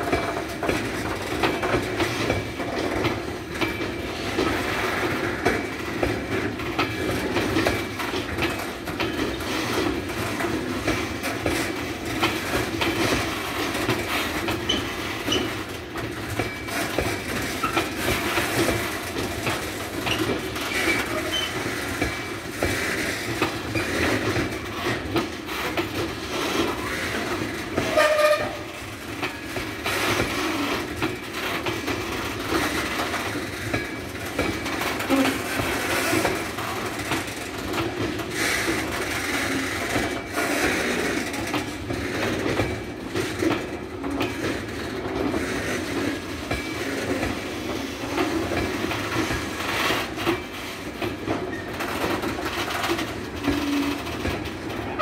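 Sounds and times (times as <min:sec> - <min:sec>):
train wagons rumbling on rails: 0:00.0 - 0:55.0.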